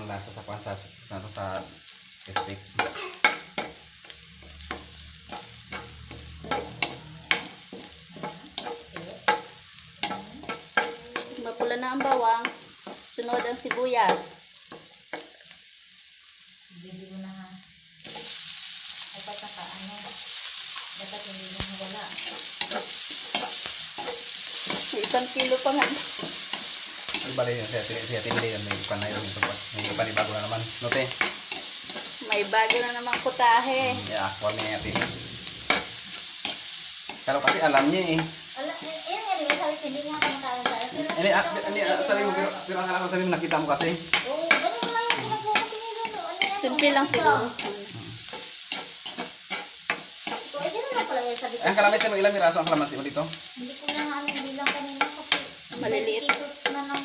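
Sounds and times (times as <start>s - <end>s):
onion sizzling in a wok: 0.0s - 57.0s.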